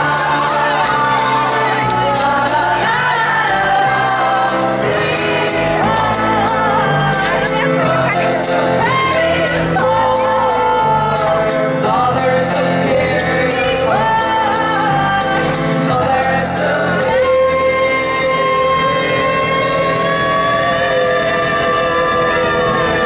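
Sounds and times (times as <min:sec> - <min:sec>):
mandolin: 0:00.0 - 0:23.0
women singing loudly: 0:00.0 - 0:23.0.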